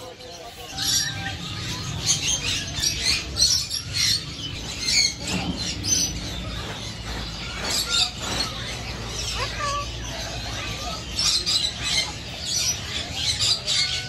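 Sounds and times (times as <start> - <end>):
birds chirping and squawking: 0.0 - 14.0.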